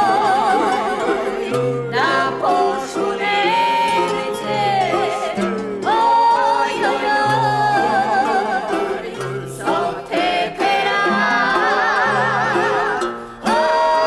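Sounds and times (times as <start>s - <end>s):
person singing with vibrato: 0.0s - 14.0s
plucked guitar: 0.0s - 14.0s.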